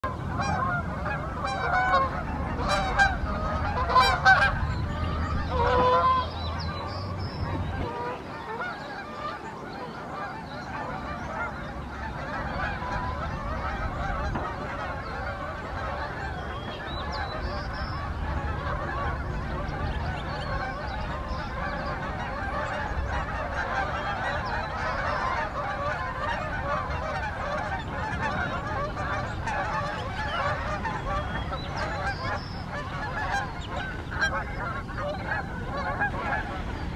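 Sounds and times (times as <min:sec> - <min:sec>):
geese honking in flight: 0:00.0 - 0:36.9.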